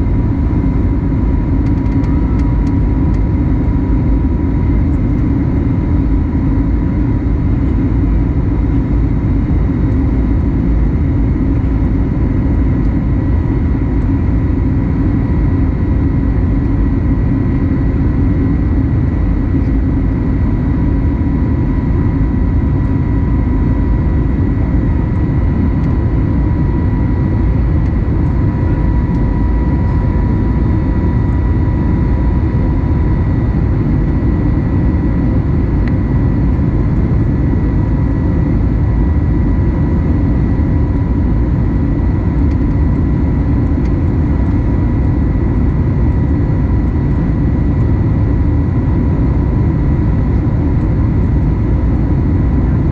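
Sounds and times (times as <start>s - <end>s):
jet engine drone: 0.0s - 52.9s
steady whine: 0.0s - 52.9s.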